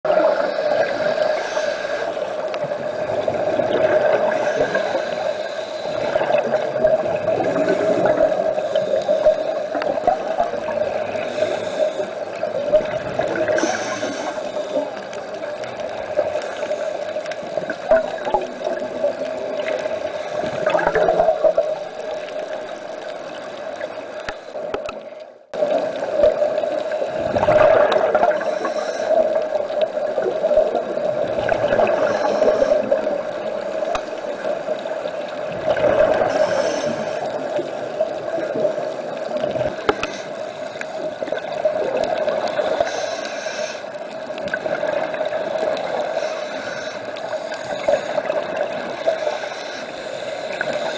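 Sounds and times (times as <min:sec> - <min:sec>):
water noise: 0:00.0 - 0:50.9
muffled underwater hum: 0:00.2 - 0:50.9.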